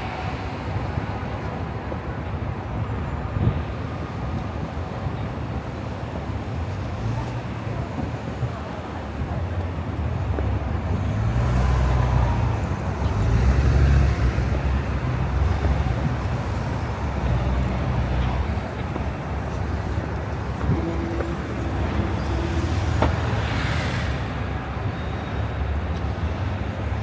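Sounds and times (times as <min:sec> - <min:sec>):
car and bus engines passing: 0:00.0 - 0:27.0.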